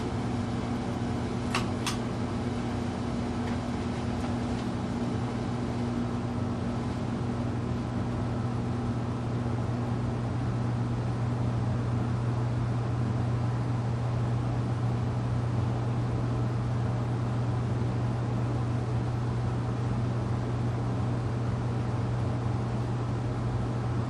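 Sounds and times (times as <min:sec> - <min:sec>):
ceiling fan motor hum: 0:00.0 - 0:24.0.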